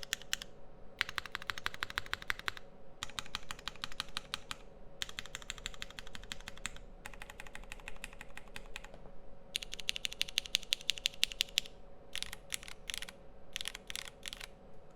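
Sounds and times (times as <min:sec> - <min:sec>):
mechanical keyboard typing: 0:00.0 - 0:09.0, 0:09.6 - 0:14.5.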